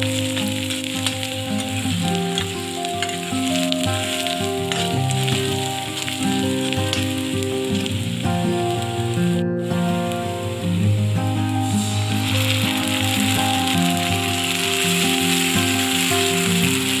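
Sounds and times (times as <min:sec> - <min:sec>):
background music: 0:00.0 - 0:17.0
onions sizzling in hot oil: 0:00.0 - 0:17.0.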